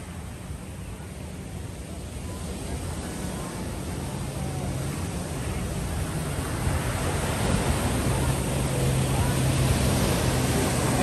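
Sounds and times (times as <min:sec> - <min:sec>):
sea waves breaking on shore: 0:00.0 - 0:11.0.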